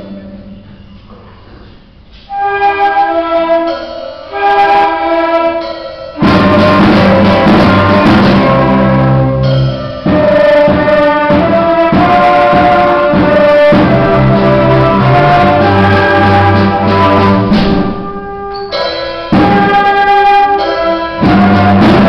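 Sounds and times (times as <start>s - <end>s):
orchestra playing: 0.0s - 1.3s, 2.3s - 22.0s.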